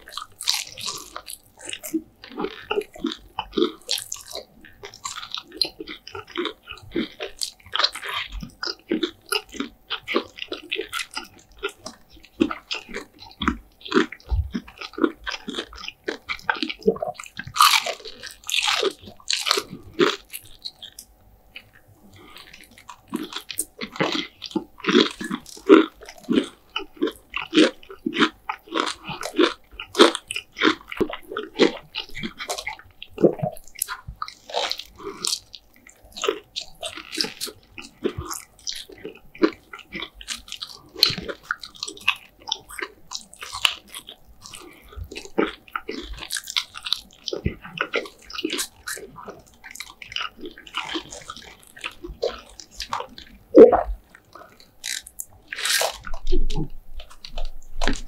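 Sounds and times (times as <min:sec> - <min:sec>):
chewing crispy fried food: 0:00.0 - 0:58.0.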